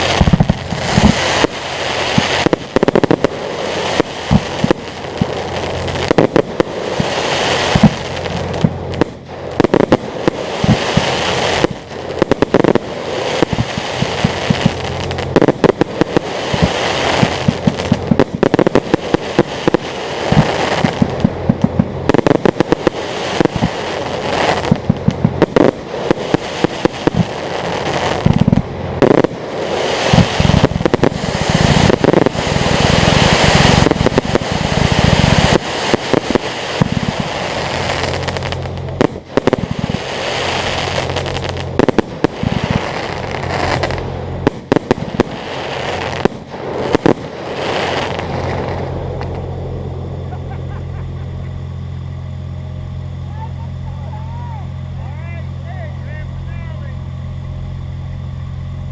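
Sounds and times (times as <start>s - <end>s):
fireworks bangs and crackling: 0.0s - 58.9s
steady low hum: 0.0s - 58.9s.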